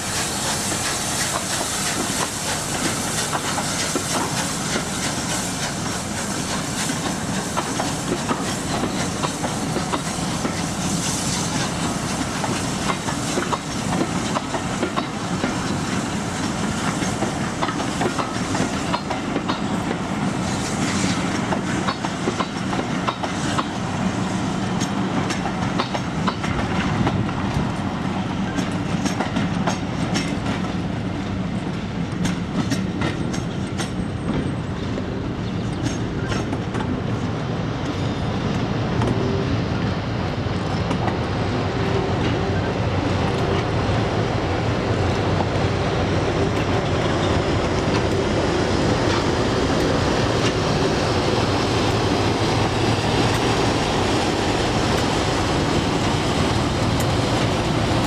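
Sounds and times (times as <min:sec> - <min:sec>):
locomotive steam hiss: 0:00.0 - 0:34.7, 0:35.6 - 0:58.0
train wheels clicking over rail joints: 0:00.0 - 0:39.2, 0:44.9 - 0:58.0.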